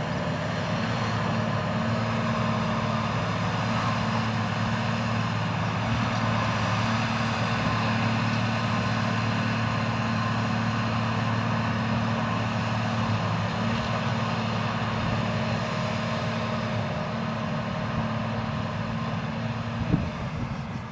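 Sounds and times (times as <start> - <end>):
drilling rig engine running: 0.0 - 20.9.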